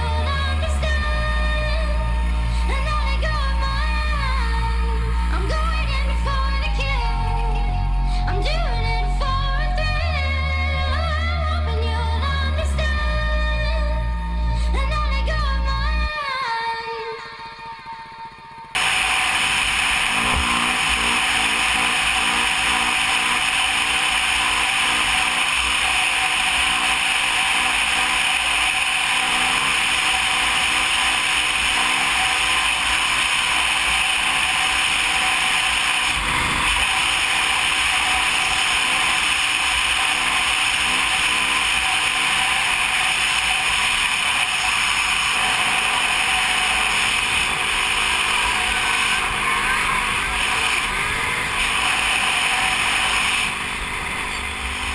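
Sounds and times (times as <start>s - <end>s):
dirt bike engine revving: 0.0s - 16.1s, 18.4s - 54.9s.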